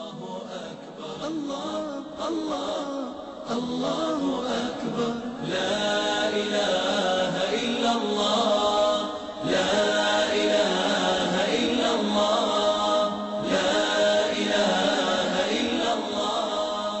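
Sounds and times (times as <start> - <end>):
voices chanting: 0.0 - 17.0.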